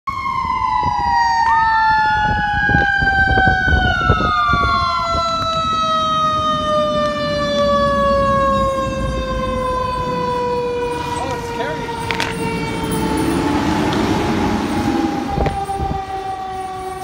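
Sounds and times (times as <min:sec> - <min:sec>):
fire engine siren wailing: 0:00.1 - 0:17.0
second siren rising and falling: 0:00.1 - 0:17.0.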